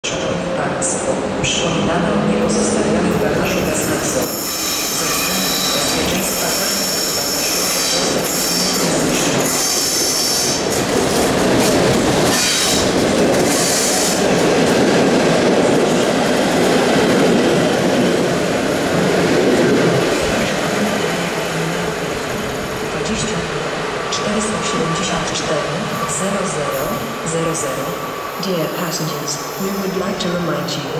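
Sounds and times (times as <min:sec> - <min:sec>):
train wheels rumbling on rails: 0:00.1 - 0:30.9.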